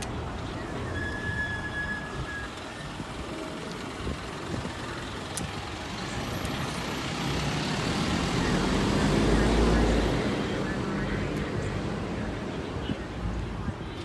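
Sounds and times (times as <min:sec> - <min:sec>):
traffic noise: 0:00.0 - 0:14.0
truck engine rumble: 0:00.0 - 0:14.0.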